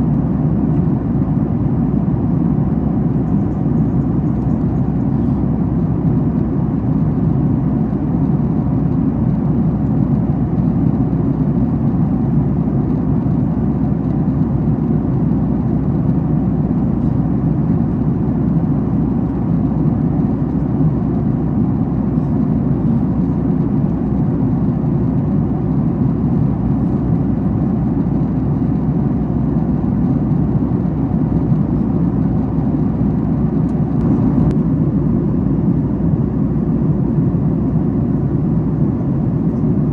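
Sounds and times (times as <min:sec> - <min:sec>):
airplane cabin airflow rush: 0:00.0 - 0:39.9
jet engine hum: 0:00.0 - 0:39.9.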